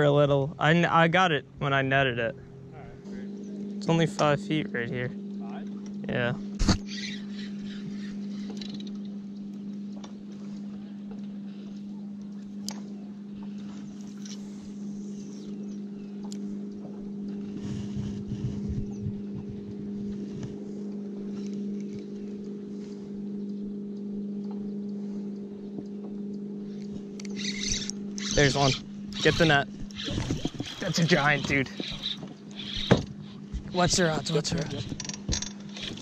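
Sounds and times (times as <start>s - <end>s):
electric trolling motor humming: 0.0s - 36.0s.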